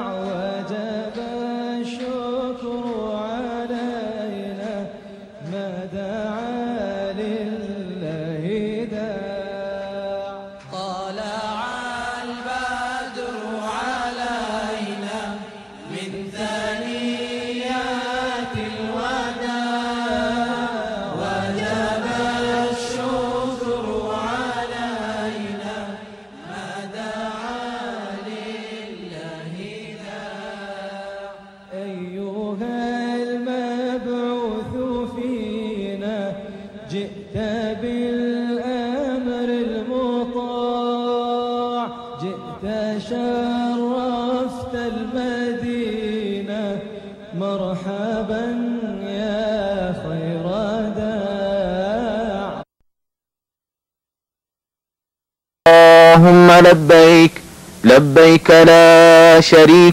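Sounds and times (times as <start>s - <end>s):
person chanting unaccompanied: 0.0s - 52.7s, 55.7s - 59.9s.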